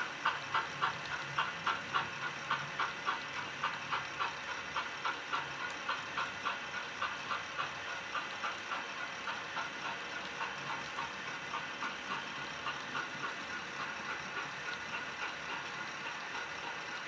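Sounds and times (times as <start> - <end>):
model train mechanical whirr: 0.0 - 17.0.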